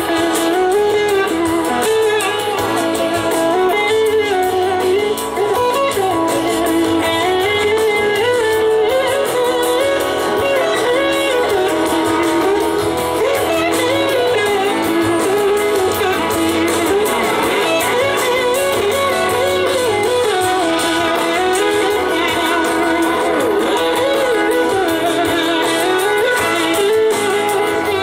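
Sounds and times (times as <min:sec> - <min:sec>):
bass guitar: 0:00.0 - 0:28.0
drums: 0:00.0 - 0:28.0
electric guitar sliding lead melody: 0:00.0 - 0:28.0.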